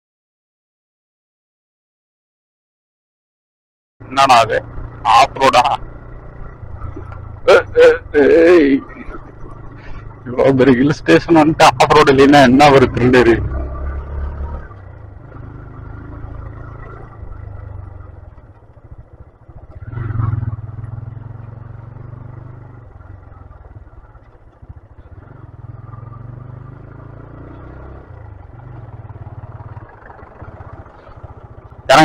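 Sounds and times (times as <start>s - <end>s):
motorcycle engine running: 4.0s - 32.0s.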